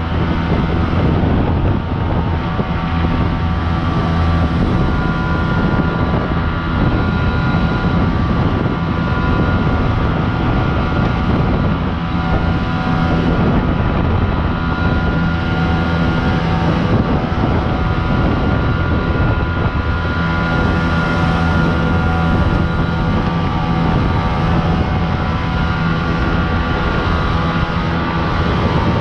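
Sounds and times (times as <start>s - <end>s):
boat engine droning: 0.0s - 29.0s
rush of water and air: 0.0s - 29.0s.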